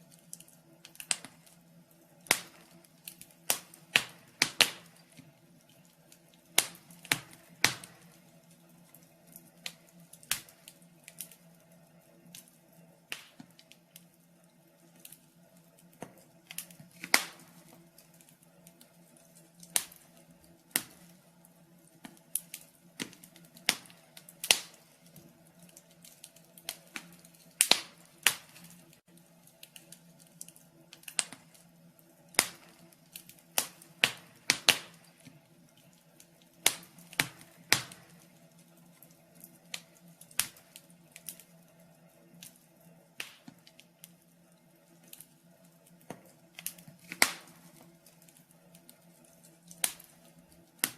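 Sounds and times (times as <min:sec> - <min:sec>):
firewood crackling and popping: 0:00.0 - 0:50.9.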